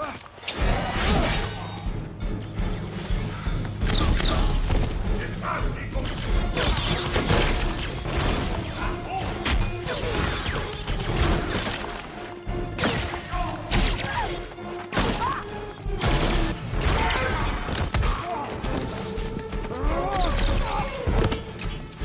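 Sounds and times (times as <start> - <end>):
film music score: 0.0 - 22.0.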